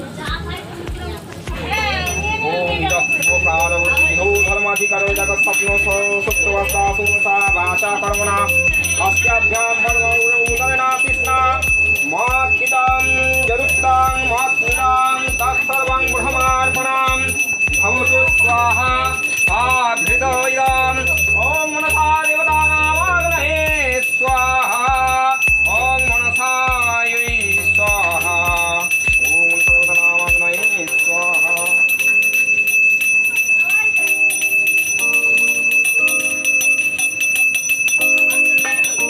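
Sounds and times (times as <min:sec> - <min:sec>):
low steady beat: 0:00.0 - 0:39.0
song with singing voice: 0:00.0 - 0:39.0
hand bell ringing: 0:01.7 - 0:39.0.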